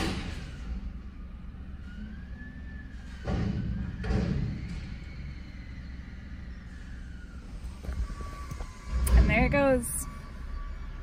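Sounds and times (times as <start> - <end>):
diesel engine rumble: 0.0 - 11.0
faint whine: 0.0 - 11.0.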